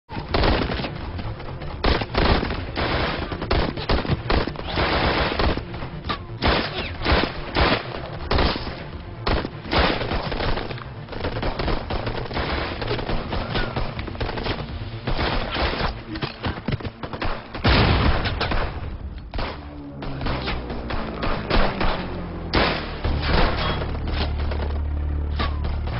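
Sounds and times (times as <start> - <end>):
heavy gunfire: 0.2 - 5.8, 6.4 - 16.0, 17.0 - 24.9.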